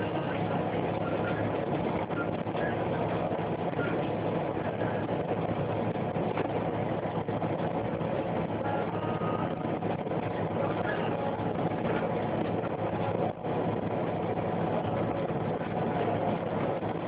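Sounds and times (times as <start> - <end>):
bus engine drone: 0.0 - 17.0
road and tyre noise: 0.0 - 17.0.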